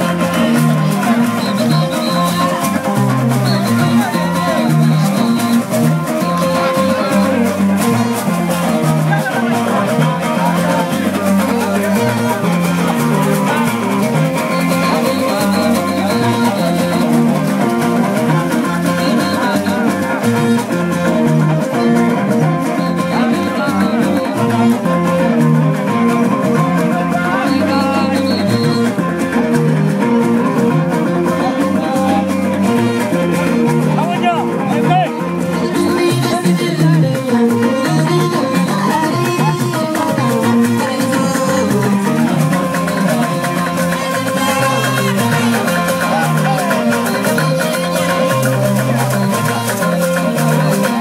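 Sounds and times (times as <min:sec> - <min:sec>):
plucked guitar music: 0:00.0 - 0:51.0
stepping bass line: 0:00.0 - 0:51.0.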